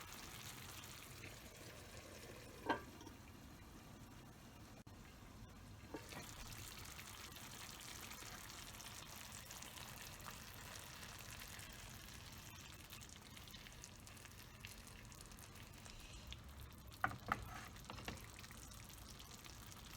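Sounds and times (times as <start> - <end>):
food sizzling in a frying pan: 0.0 - 3.5, 5.8 - 19.9.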